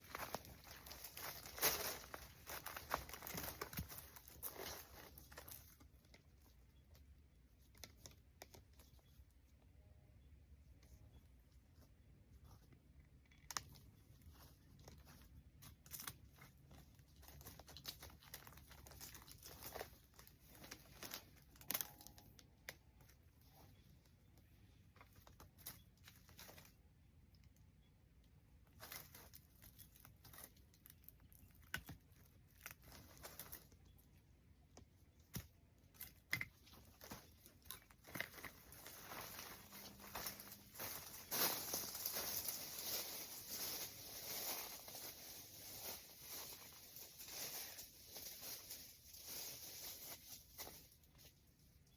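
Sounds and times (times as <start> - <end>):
faint clicks and crinkling rustles: 0.0 - 51.9.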